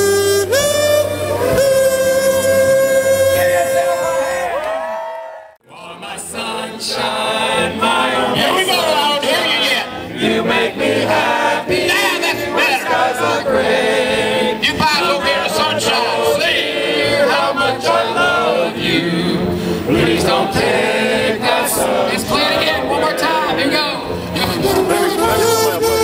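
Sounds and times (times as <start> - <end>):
crowd humming through kazoos: 0.0 - 26.0.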